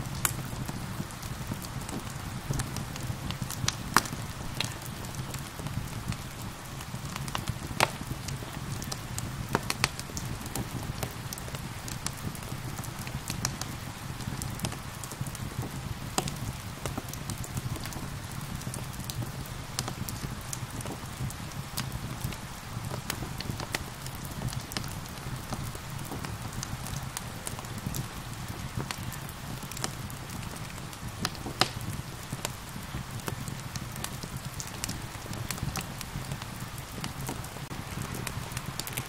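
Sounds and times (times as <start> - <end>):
rain hissing: 0.0 - 39.0
wood fire crackling and popping: 0.0 - 39.0.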